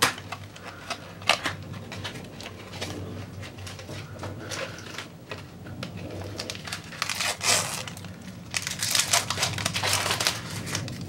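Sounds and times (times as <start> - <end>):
foil wrapper tearing and crinkling: 0.0 - 11.0.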